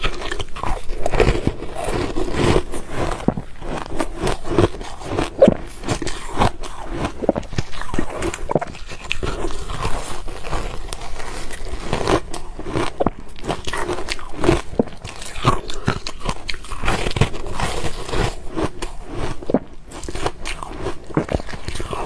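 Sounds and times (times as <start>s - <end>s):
person chewing ice: 0.0s - 22.0s.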